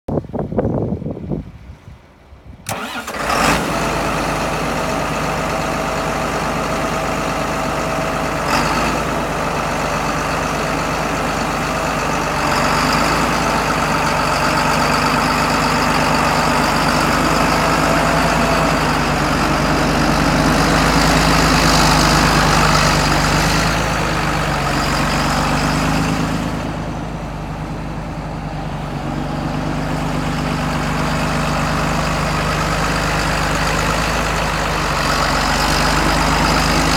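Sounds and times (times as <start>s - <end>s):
tractor diesel engine running: 2.6s - 36.9s.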